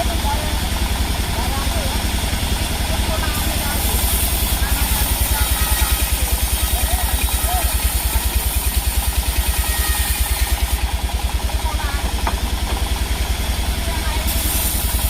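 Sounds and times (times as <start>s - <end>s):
engine idling with low thudding: 0.0s - 15.0s.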